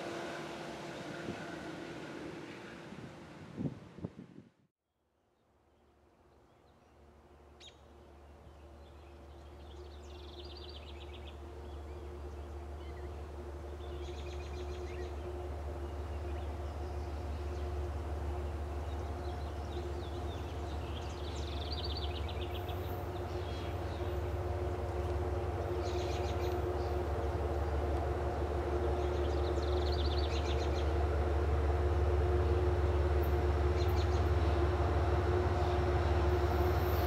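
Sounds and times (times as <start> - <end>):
distant diesel train rumble: 0.0 - 4.5, 6.0 - 37.0.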